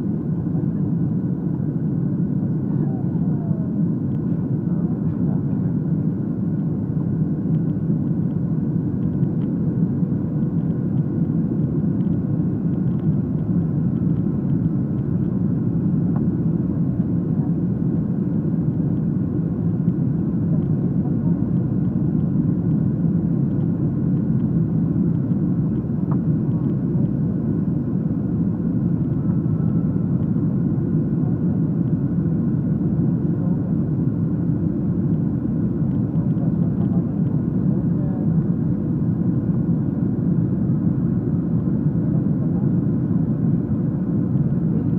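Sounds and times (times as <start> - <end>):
airliner cabin engine roar: 0.0 - 44.9.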